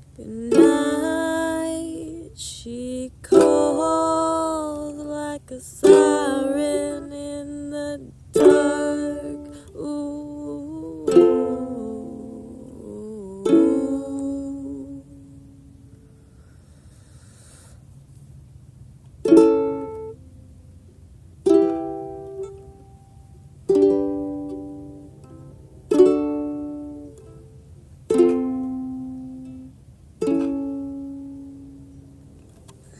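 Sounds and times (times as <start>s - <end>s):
low steady hum: 0.0s - 32.9s
ukulele chords strummed: 0.1s - 16.2s, 19.1s - 32.9s.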